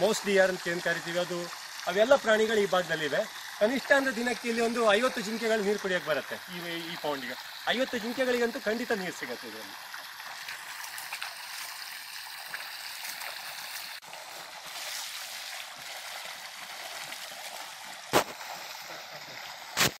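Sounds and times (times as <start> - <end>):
water gushing into tank: 0.0 - 20.0.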